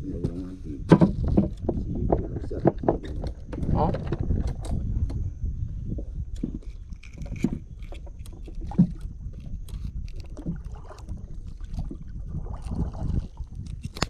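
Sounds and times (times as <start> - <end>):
boat handling noise: 0.0 - 5.3, 5.9 - 14.0
low rumbling water: 0.0 - 14.0.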